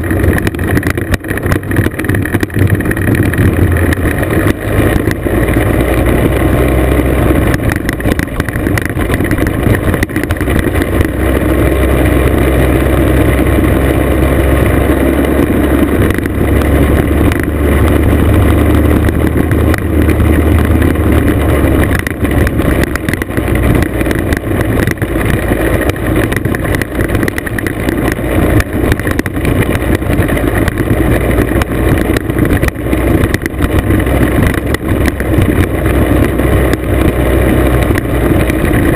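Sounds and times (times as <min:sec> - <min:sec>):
scooter engine running: 0:00.0 - 0:38.9
tyres rumbling on gravel: 0:00.0 - 0:38.9.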